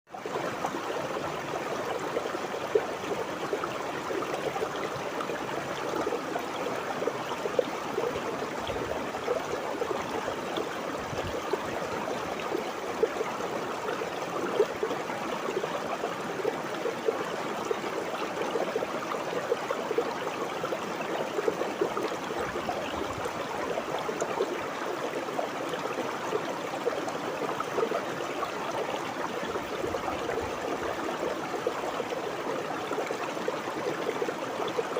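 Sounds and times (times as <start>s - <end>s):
river water babbling: 0.1s - 34.9s.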